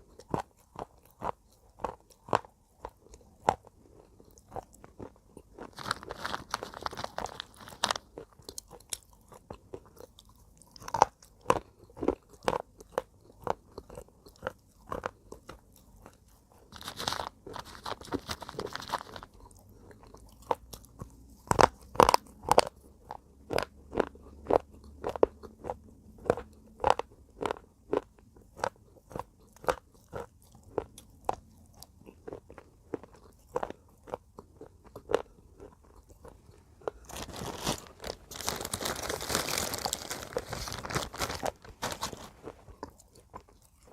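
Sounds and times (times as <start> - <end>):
chewing crunches: 0.0 - 43.9.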